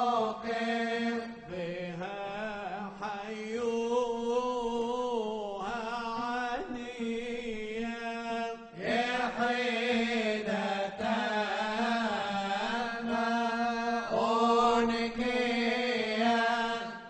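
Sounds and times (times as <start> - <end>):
men singing a slow chant: 0.0 - 17.0.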